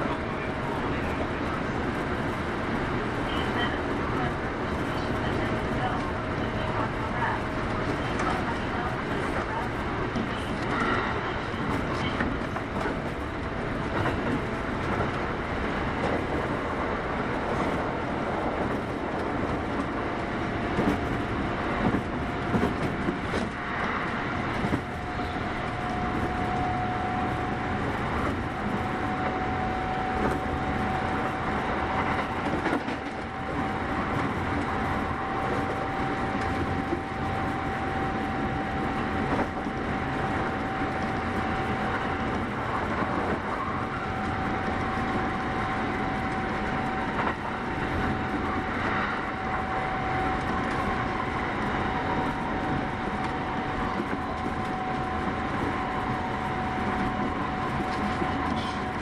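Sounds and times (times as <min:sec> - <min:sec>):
electric train running rumble: 0:00.0 - 0:59.0.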